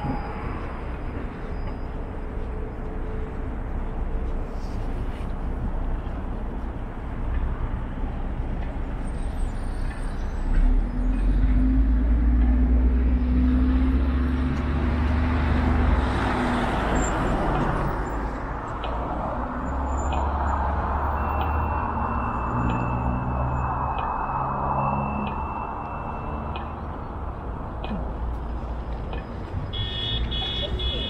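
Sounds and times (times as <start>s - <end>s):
heavy vehicle engine rumble: 0.0s - 31.0s.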